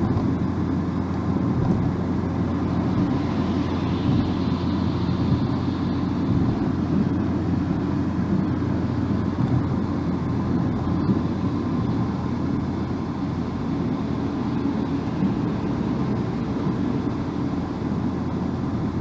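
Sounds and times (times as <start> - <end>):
car engine: 0.0 - 19.0
tyre and road noise: 0.0 - 19.0.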